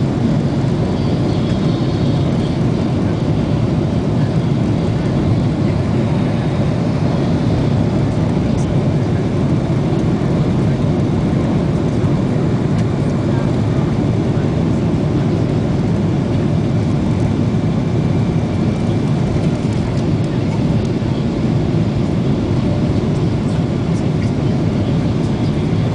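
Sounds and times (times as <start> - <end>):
jet engines roaring on takeoff: 0.0 - 25.9.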